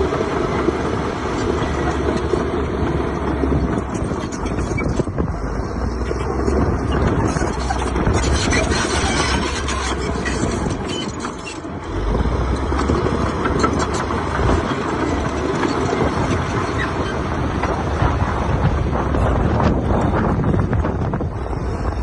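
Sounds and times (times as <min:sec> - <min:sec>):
heavy diesel machinery rumbling: 0:00.0 - 0:22.0.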